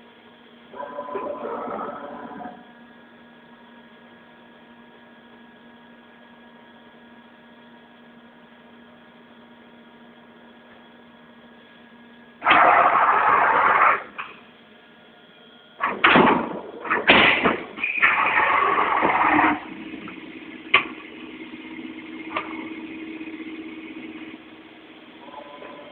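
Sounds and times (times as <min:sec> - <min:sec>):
machine humming with fixed tones: 0:00.0 - 0:25.9.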